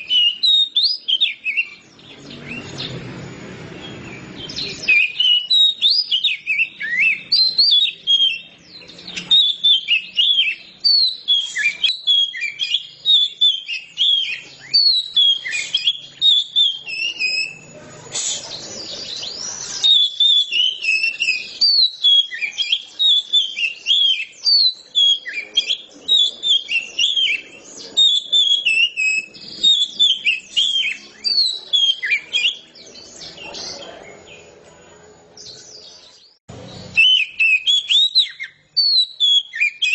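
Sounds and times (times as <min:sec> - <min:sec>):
bird singing whistled phrases: 0:00.0 - 0:03.0, 0:03.8 - 0:34.5, 0:35.4 - 0:39.9.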